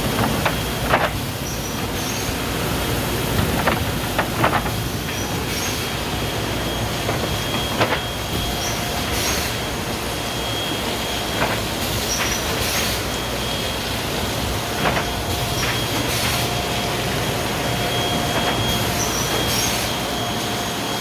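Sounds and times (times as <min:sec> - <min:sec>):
washing machine running: 0:00.0 - 0:21.0.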